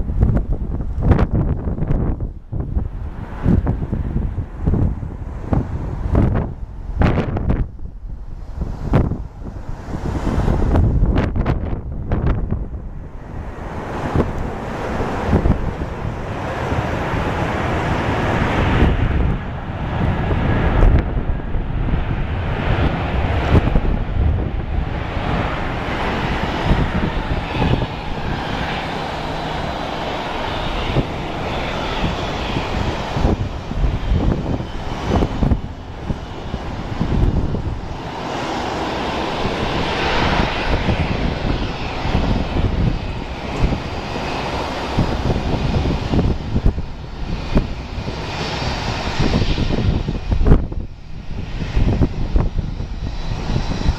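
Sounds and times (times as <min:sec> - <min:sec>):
jet engines rumbling: 0:00.0 - 0:53.9
wind buffeting microphone: 0:00.0 - 0:53.9.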